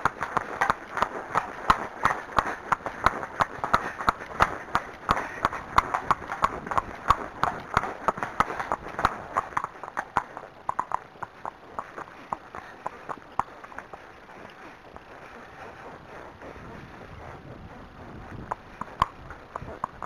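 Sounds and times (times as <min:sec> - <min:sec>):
horse hooves on tarmac: 0:00.0 - 0:20.0.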